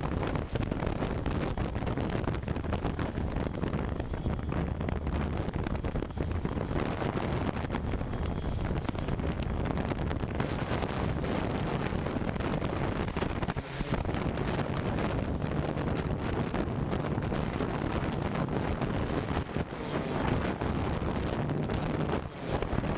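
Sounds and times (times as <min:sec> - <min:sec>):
thin high whine: 0:00.0 - 0:22.9
wind buffeting microphone: 0:00.0 - 0:22.9.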